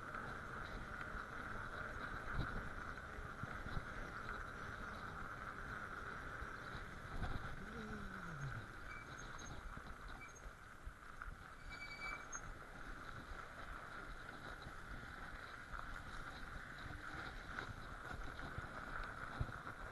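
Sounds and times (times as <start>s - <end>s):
bike tyres crunching on snow: 0.0s - 19.9s.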